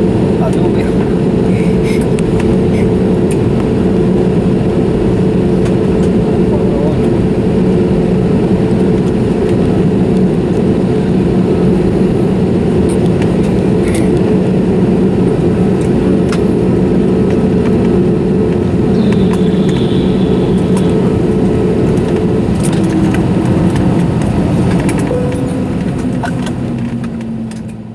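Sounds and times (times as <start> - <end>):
airplane cabin hum: 0.0 - 27.9
engine and air-system tones: 0.0 - 27.9.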